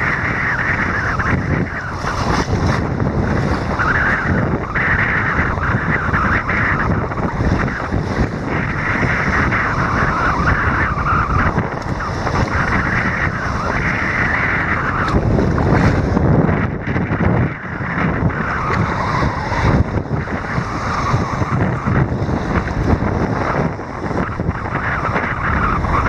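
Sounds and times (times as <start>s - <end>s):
surf breaking and washing: 0.0s - 26.0s
wind buffeting microphone: 0.0s - 26.0s.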